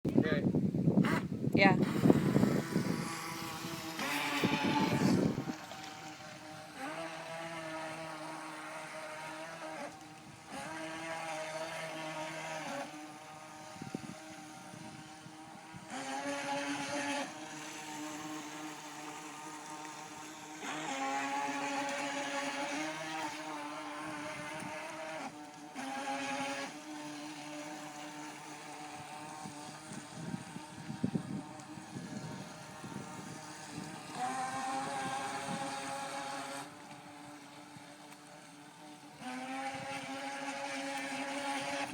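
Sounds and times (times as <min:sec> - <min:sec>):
rc boat motor whining: 0:00.1 - 0:41.9.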